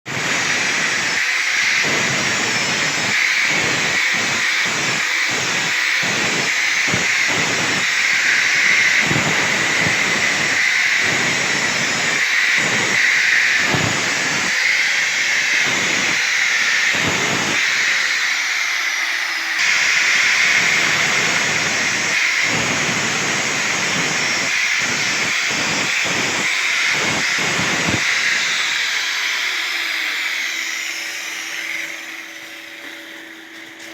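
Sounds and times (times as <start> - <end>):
power tool grinding metal: 0.1 - 33.9.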